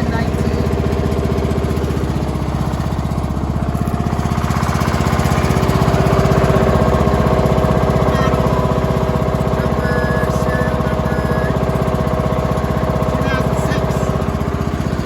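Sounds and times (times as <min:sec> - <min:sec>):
riding mower engine putter: 0:00.0 - 0:15.0.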